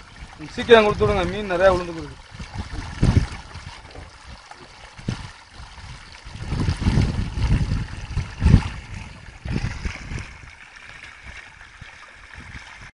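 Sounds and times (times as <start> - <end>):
low rumbles and thumps: 0.0 - 10.6
water trickling through mud: 0.0 - 12.9.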